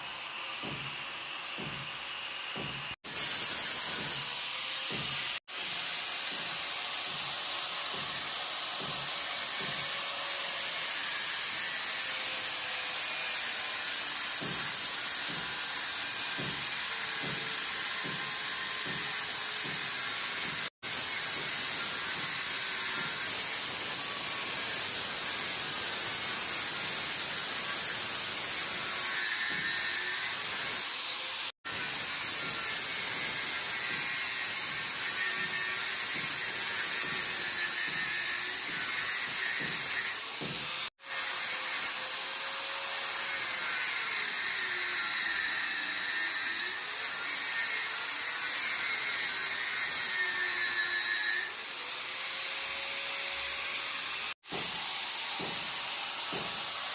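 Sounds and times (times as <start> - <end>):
angle grinder cutting metal rod: 2.5 - 56.9.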